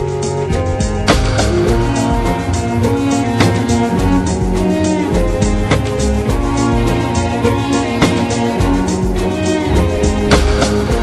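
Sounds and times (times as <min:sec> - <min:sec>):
haunting music over pulsing bass: 0:00.0 - 0:11.0.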